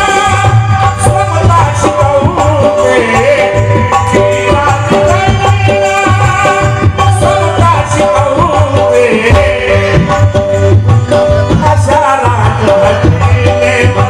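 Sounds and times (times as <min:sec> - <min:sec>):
tabla beating a steady rhythm: 0:00.0 - 0:14.0.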